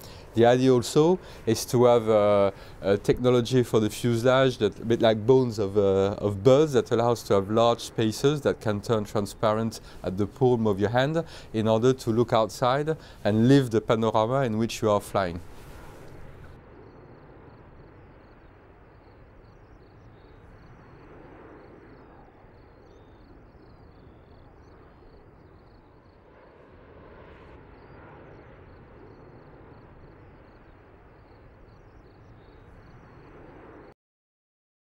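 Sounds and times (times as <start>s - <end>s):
faint rumbling hiss: 0.0s - 33.9s.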